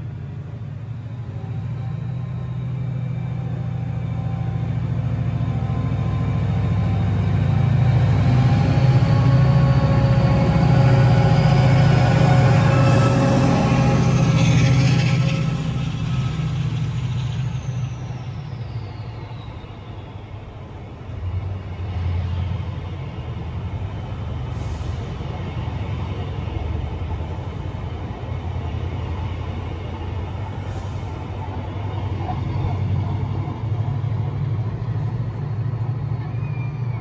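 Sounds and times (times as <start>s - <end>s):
train engine drone: 0.0s - 37.0s.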